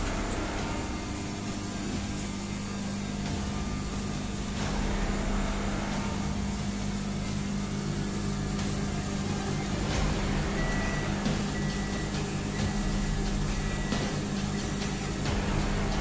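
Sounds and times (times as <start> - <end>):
kitchen equipment humming: 0.0 - 16.0.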